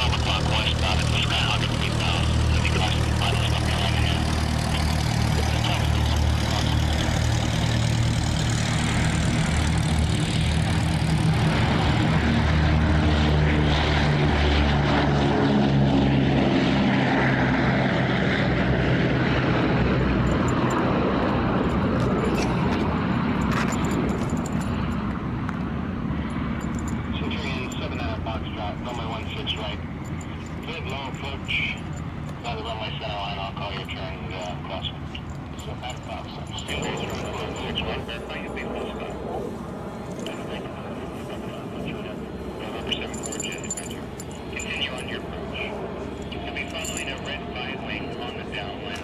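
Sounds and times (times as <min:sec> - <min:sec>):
propeller plane engines droning: 0:00.0 - 0:49.0.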